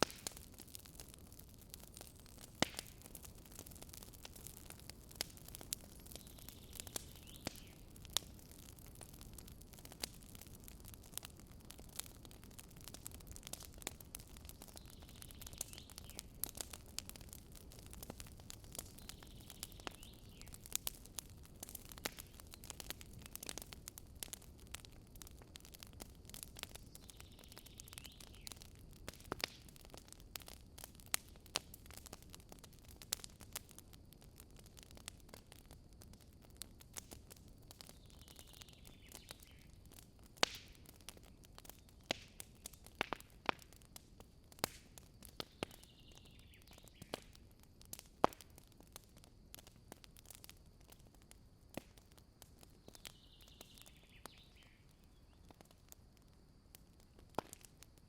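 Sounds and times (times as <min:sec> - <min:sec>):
fire hissing: 0:00.0 - 0:48.6
wood fire crackling: 0:00.0 - 0:58.0.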